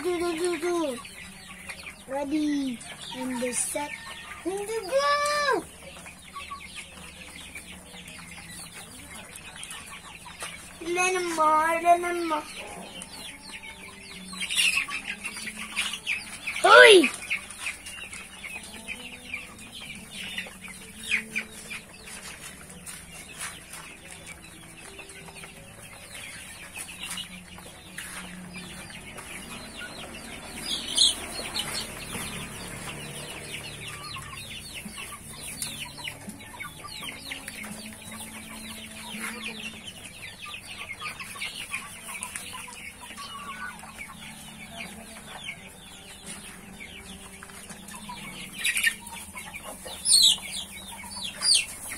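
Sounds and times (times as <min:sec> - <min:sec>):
chickens clucking: 0:00.0 - 0:51.9
chicks peeping: 0:00.0 - 0:51.9.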